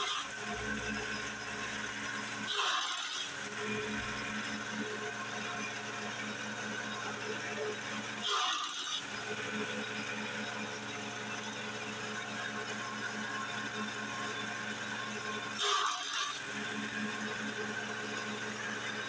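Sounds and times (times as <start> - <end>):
grass chopper machine humming: 0.0 - 19.0.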